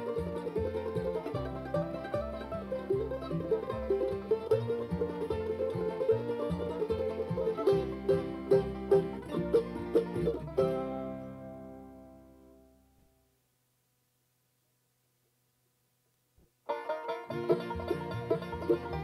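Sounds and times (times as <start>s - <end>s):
bluegrass banjo music: 0.0s - 12.9s, 16.6s - 19.0s.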